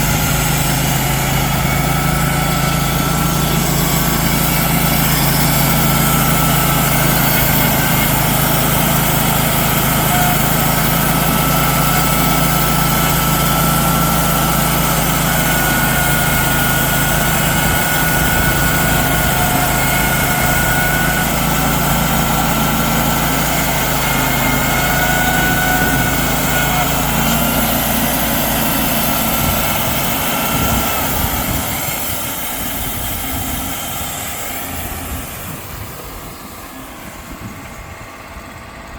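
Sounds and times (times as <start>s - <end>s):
gasoline engine running: 0.0s - 38.9s.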